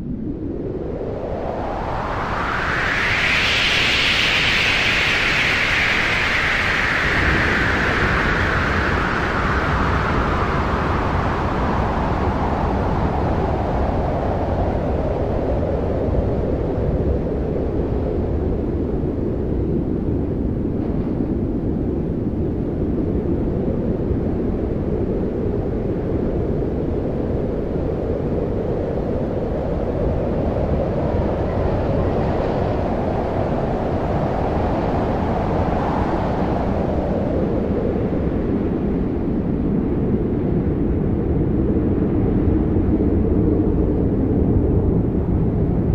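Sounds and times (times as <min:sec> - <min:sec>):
strong wind rushing: 0:00.0 - 0:45.9.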